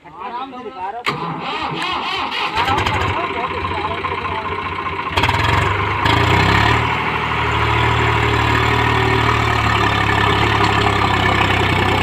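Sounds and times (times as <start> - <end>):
tractor diesel engine running: 1.1 - 12.0.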